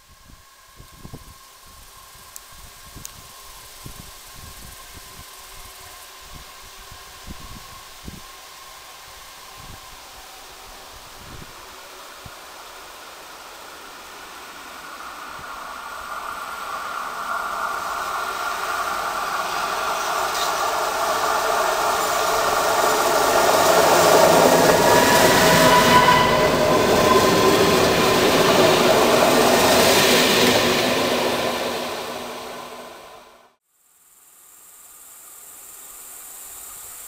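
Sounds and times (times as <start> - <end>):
locomotive engine and wheels: 0.0 - 33.6
steady whine: 0.0 - 33.6.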